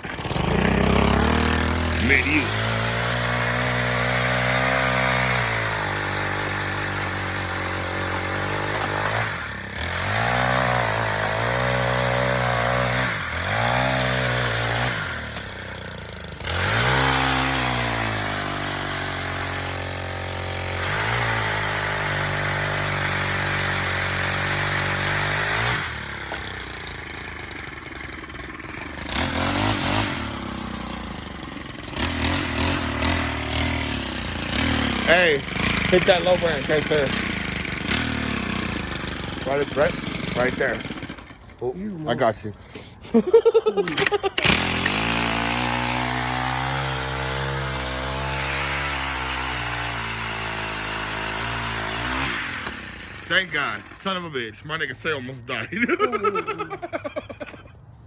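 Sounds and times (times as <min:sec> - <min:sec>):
chainsaw cutting a tree limb: 0:00.0 - 0:42.2, 0:43.8 - 0:54.3.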